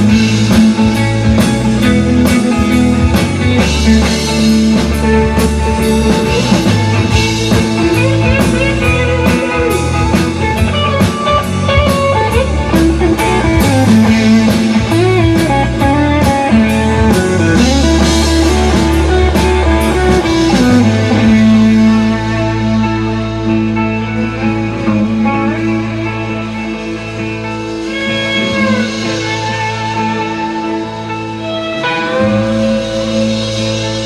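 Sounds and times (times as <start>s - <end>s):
electric guitar: 0.0s - 34.0s
live rock band playing: 0.0s - 34.0s.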